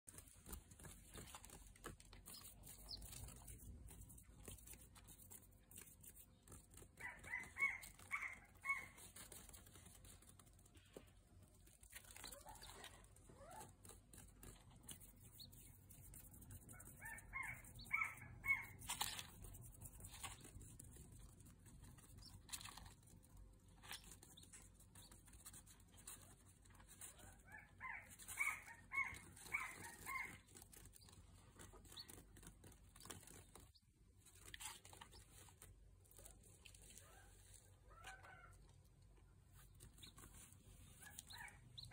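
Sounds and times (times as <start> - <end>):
chicks pecking and scratching: 0.0 - 41.9
chicks peeping: 0.1 - 41.9.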